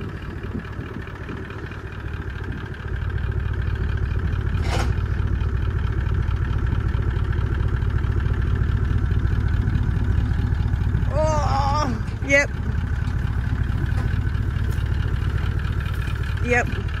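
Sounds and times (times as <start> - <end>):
farm machine engine running: 0.0 - 17.0.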